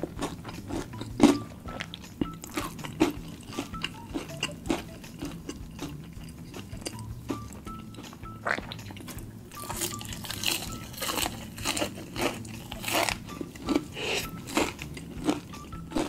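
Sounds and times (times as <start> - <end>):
crunchy chewing of fried chicken: 0.0 - 16.0.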